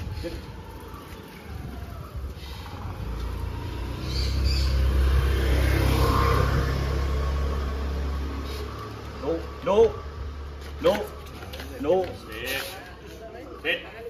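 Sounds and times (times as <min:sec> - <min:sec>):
vehicle engine rumble passing: 0:00.0 - 0:13.3.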